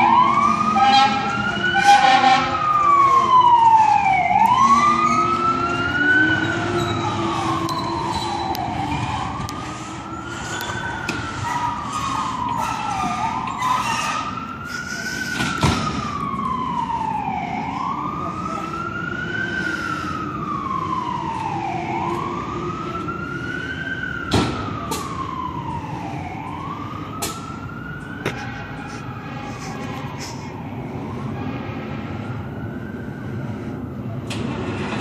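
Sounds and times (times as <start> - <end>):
fire truck siren wailing: 0.0 - 35.0.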